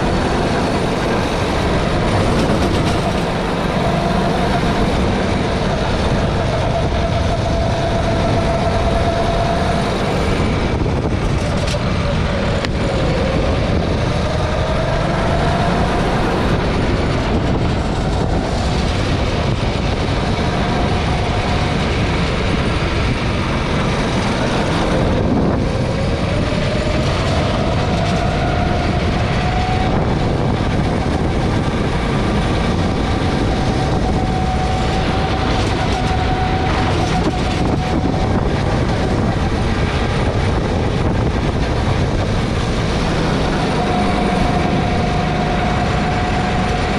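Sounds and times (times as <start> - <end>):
go-kart engine revving: 0.0 - 46.9
heavy steady rumble: 0.0 - 46.9.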